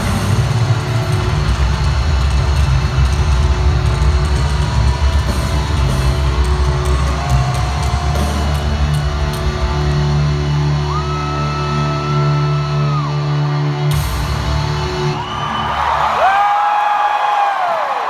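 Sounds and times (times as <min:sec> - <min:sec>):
hard rock band playing live: 0:00.0 - 0:15.3.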